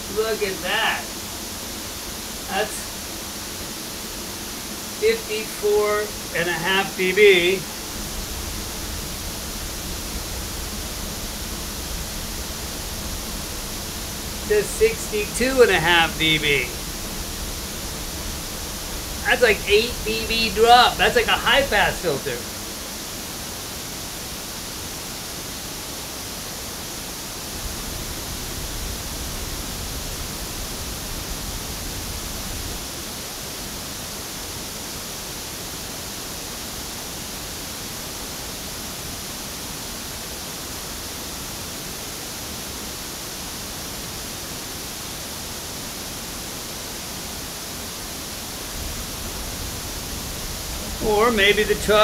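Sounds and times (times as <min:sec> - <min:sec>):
pink noise from loudspeaker: 0:00.0 - 0:52.0.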